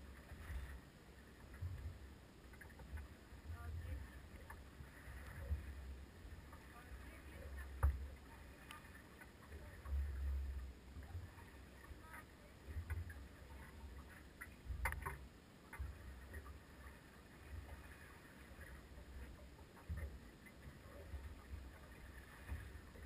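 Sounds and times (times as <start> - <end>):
light knocks and clicks on boat: 0.0 - 23.0
low irregular rumbles: 0.0 - 23.0.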